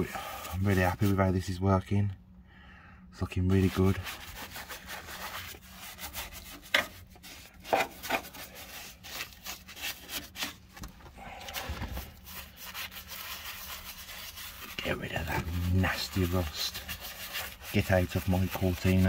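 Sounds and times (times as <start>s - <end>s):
paintbrush scrubbing on metal: 0.0s - 1.4s, 3.4s - 10.7s, 11.4s - 19.0s.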